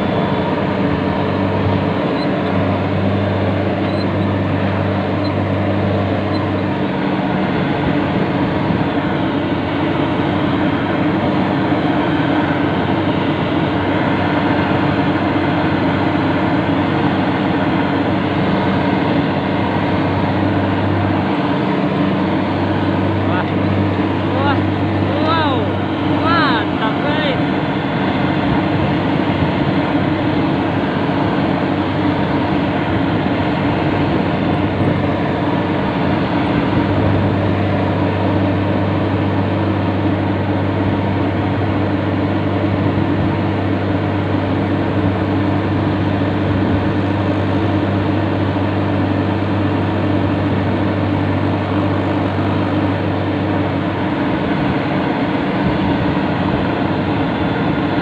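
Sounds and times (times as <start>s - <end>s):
diesel engine running: 0.0s - 58.0s
strong low hum: 0.0s - 58.0s.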